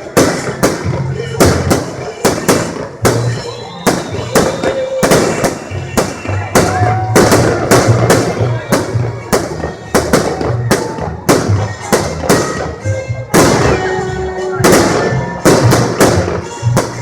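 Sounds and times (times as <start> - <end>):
fireworks bursts: 0.0 - 17.0.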